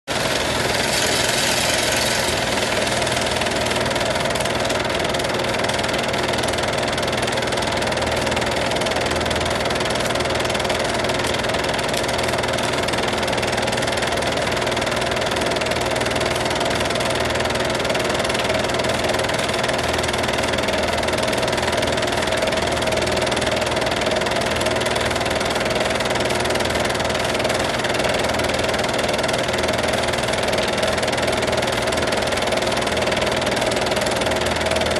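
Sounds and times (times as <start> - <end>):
film projector whirring: 0.0 - 34.9.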